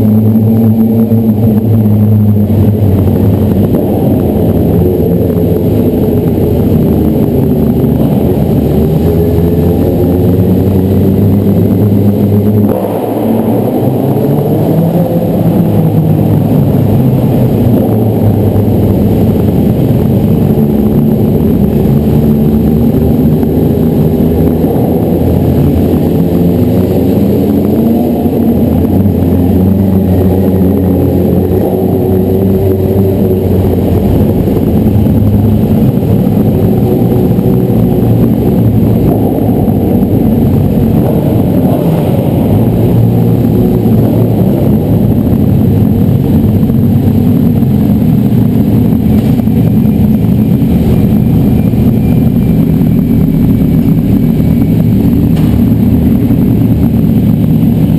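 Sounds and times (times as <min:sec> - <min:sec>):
motorcycle engines revving: 0:00.0 - 0:57.9.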